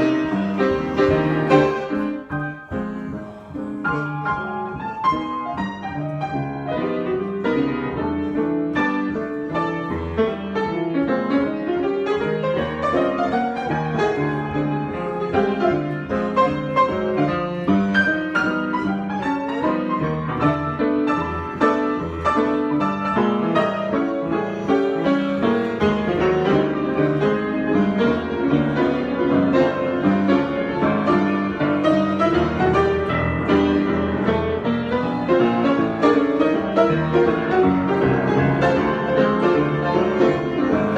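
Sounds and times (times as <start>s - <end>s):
piano improvisation: 0.0s - 40.9s.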